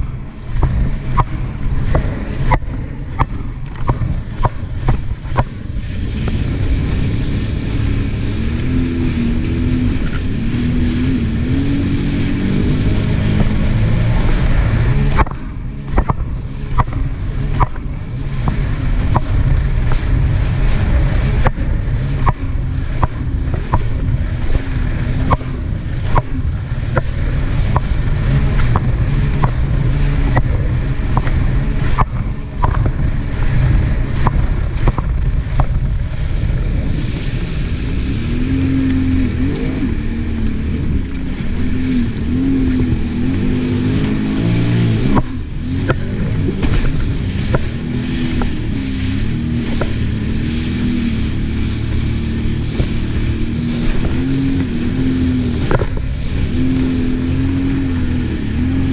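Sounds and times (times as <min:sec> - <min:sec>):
jet ski engine running: 0:00.0 - 0:58.9.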